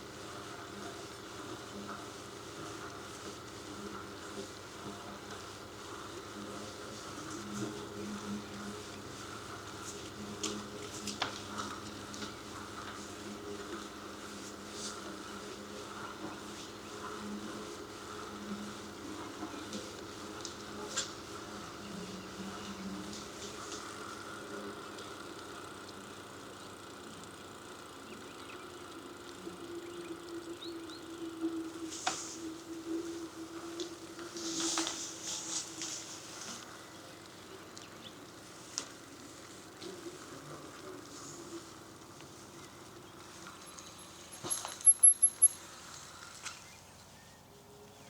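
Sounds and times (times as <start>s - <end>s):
bicycle ride ambience: 0.0s - 48.0s.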